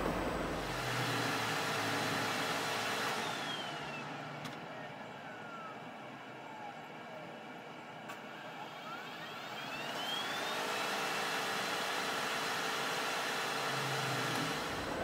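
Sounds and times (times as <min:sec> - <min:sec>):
air conditioning compressor whine: 0:00.0 - 0:15.0.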